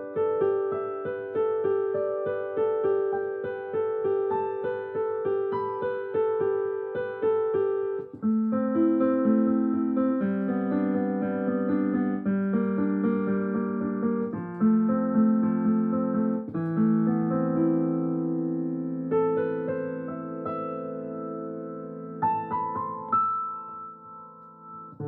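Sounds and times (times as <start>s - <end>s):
piano chords: 0.0s - 25.0s.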